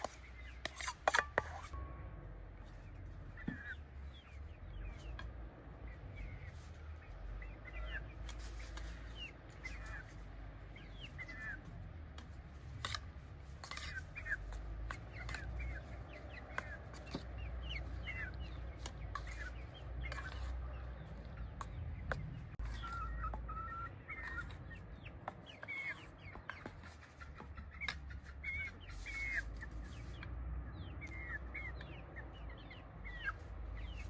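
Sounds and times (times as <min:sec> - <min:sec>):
birds chirping: 0:00.0 - 0:01.1, 0:01.7 - 0:34.0.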